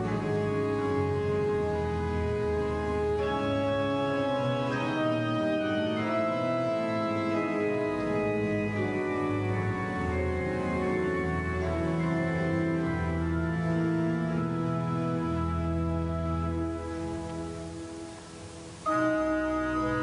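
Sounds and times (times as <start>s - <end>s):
slow organ-like keyboard chords: 0.0s - 20.0s.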